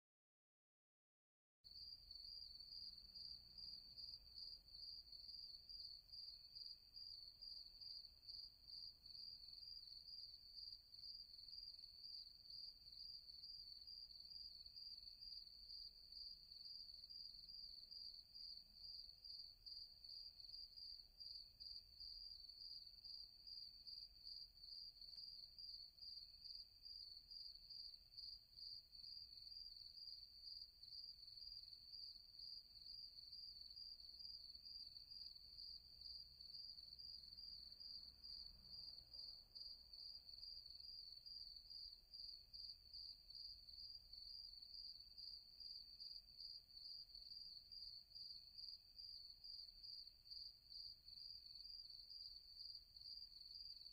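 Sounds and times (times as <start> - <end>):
crickets chirping: 1.8 - 53.9.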